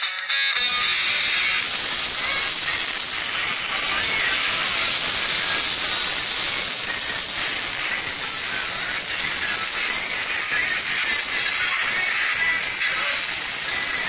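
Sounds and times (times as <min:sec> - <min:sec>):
steady loud hiss: 0:00.6 - 0:14.0.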